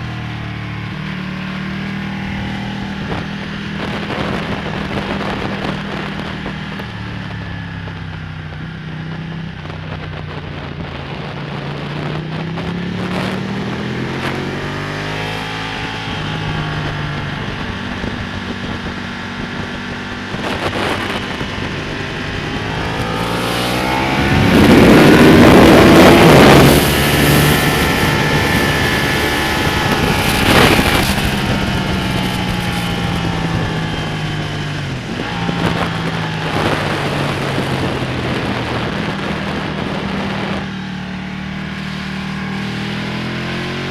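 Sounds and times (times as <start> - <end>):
motorcycle engine revving: 0.0 - 43.9
wind on microphone: 0.0 - 43.9.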